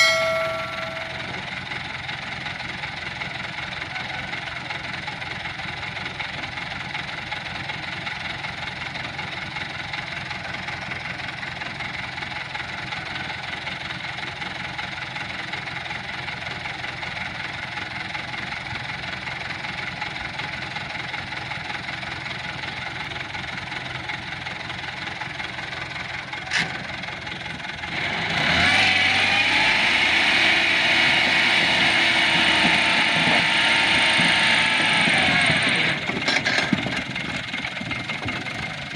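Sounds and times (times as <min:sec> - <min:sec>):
truck engine idling and revving: 0:00.0 - 0:38.9.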